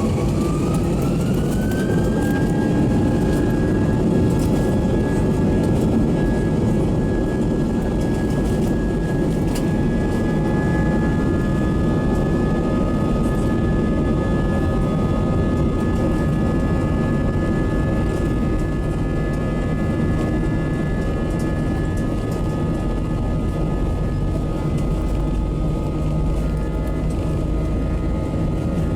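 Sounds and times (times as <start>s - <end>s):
aircraft cabin engine rumble: 0.0s - 28.9s.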